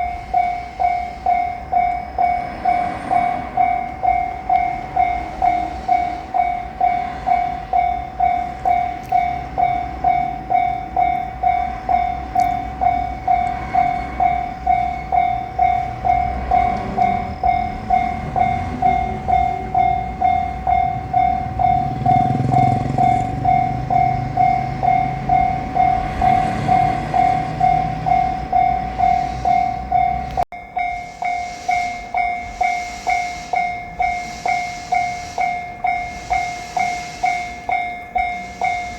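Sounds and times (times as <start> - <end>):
passing train rumble: 0.0 - 38.9
railroad crossing bell ringing: 0.0 - 38.9.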